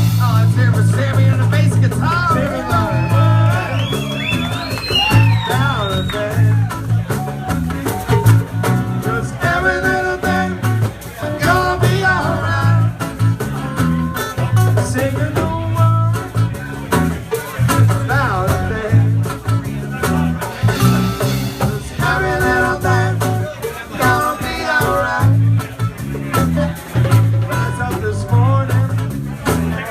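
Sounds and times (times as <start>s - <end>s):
bending guitar lead: 0.0s - 29.9s
live reggae band: 0.0s - 29.9s
repeating bass line: 0.0s - 29.9s.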